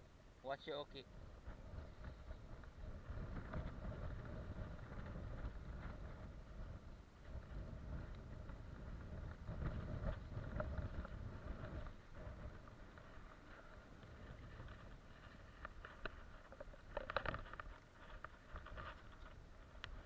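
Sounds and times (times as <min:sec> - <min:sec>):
wind rumble on microphone: 0:00.9 - 0:20.0.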